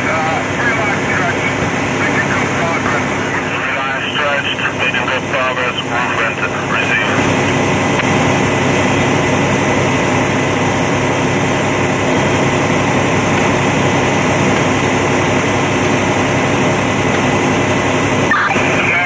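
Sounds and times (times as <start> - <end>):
heavy engine running: 0.0 - 19.0
thin steady whine: 0.0 - 19.0.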